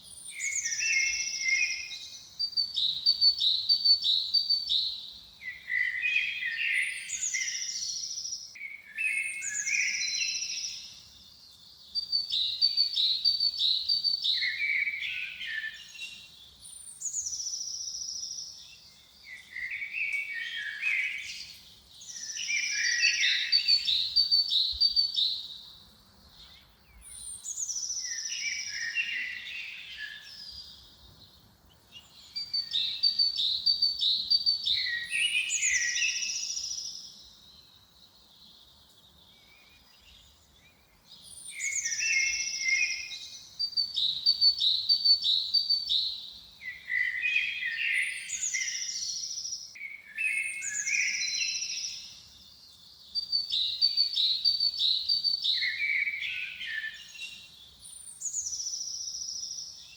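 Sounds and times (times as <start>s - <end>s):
songbird whistles and trills: 0.1s - 11.2s, 11.9s - 25.6s, 26.4s - 30.9s, 32.0s - 37.4s, 39.3s - 59.9s.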